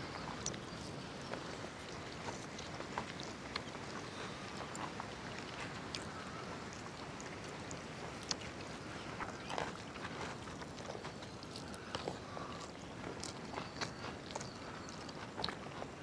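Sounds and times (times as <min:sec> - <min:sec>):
people eating with fingers: 0:00.0 - 0:16.0.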